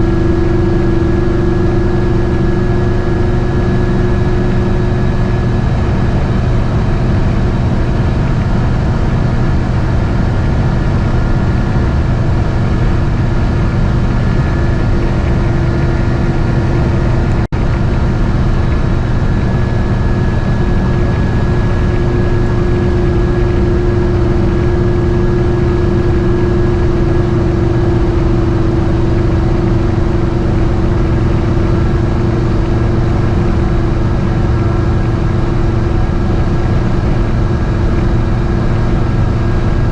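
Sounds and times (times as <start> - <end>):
engine and road noise drone: 0.0 - 39.9.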